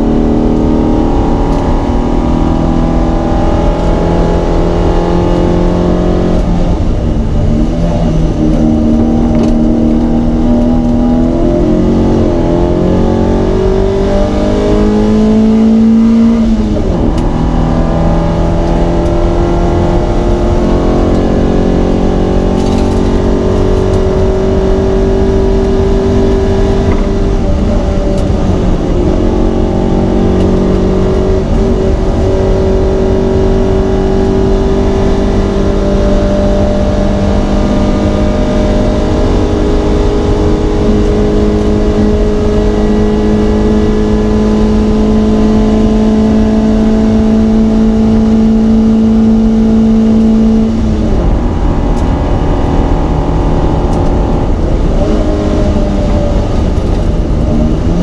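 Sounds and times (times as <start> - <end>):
car engine racing: 0.0 - 58.0.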